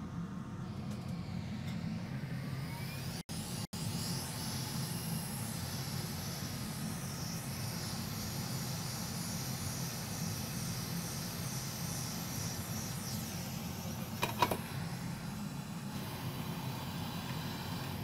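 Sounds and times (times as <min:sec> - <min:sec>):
machinery hum and hiss: 0:00.0 - 0:18.0.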